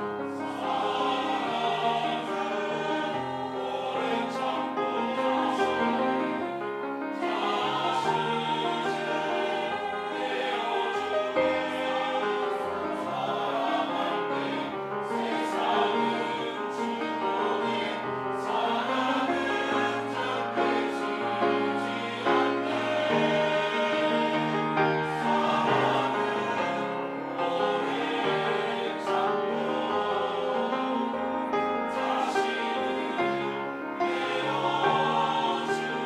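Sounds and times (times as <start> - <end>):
church choir singing: 0.0 - 36.0.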